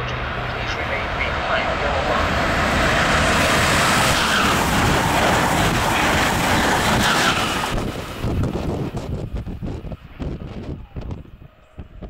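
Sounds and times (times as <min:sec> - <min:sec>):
train rushing past: 0:00.0 - 0:10.6.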